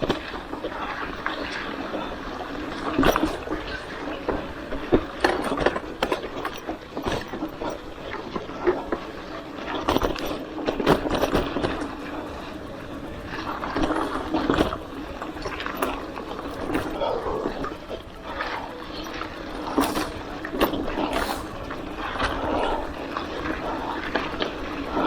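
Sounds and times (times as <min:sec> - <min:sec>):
bike knocks and rattles: 0:00.0 - 0:25.0
bike tyre noise on trail: 0:00.0 - 0:25.0.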